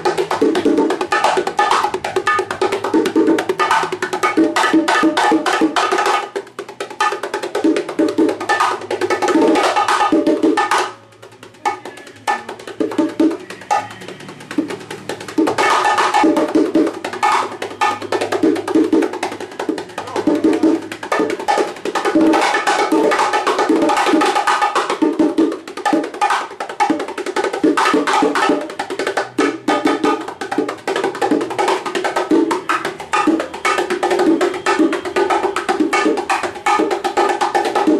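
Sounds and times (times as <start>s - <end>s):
bongos and timbales playing: 0.0s - 37.9s.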